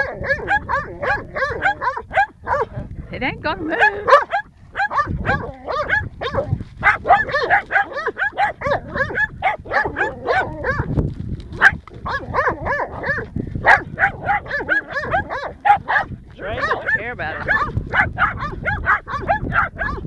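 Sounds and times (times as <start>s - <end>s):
dog barking rapidly: 0.0s - 2.8s, 3.6s - 10.9s, 11.6s - 20.0s.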